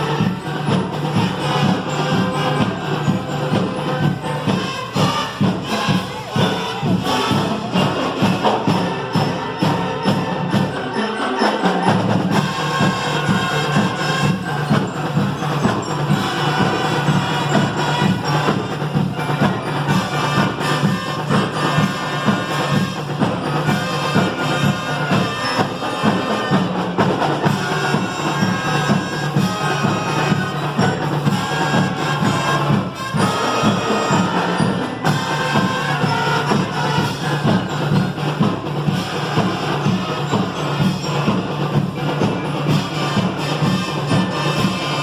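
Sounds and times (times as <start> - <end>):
marching band playing: 0.0 - 45.0
steady drum beat: 0.0 - 45.0.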